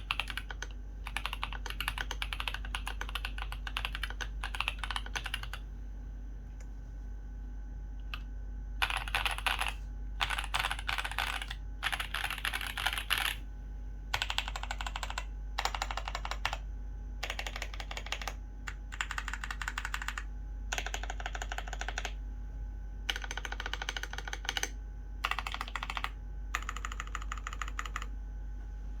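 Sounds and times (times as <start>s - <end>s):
typing on mechanical keyboard: 0.0s - 5.6s, 8.1s - 13.4s, 14.1s - 16.6s, 17.2s - 22.2s, 23.1s - 28.1s.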